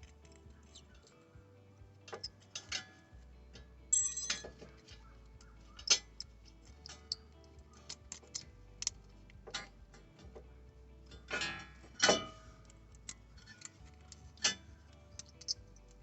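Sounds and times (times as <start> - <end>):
metal clips clicking and clinking: 2.1 - 16.0.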